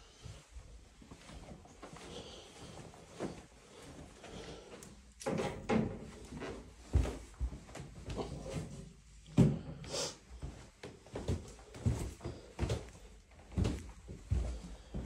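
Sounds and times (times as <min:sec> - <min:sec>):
footsteps on carpeted stairs: 0:00.0 - 0:15.0.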